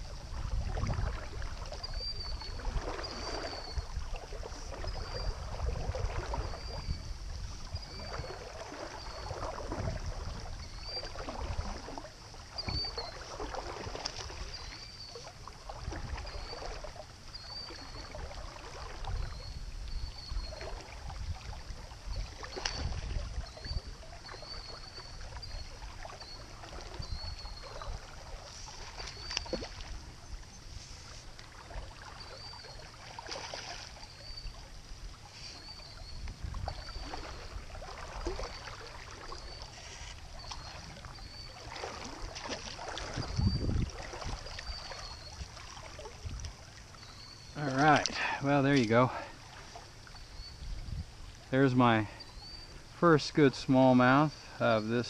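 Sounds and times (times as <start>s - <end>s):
river water sloshing: 0.0s - 55.0s.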